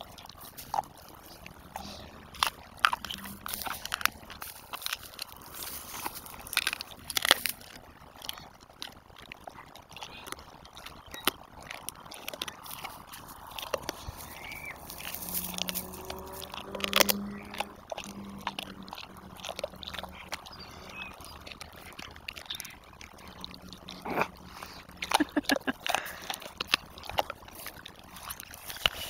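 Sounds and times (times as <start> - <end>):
dog crunching and chewing: 0.0 - 29.0.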